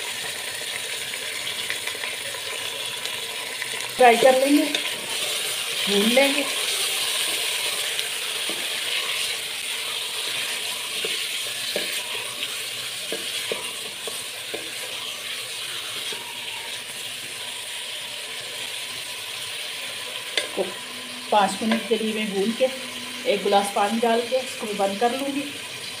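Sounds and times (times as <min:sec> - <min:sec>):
meat and onions sizzling in oil: 0:00.0 - 0:26.0.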